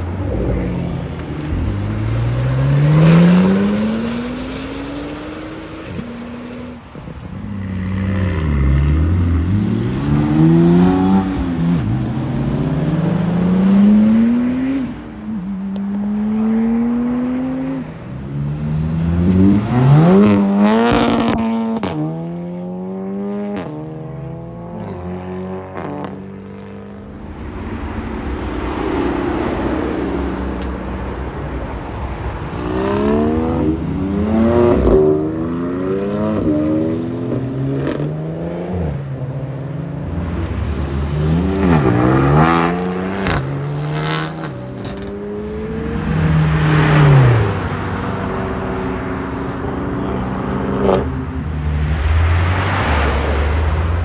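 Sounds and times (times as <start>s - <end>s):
cars accelerating hard: 0.0s - 6.9s, 7.6s - 54.0s.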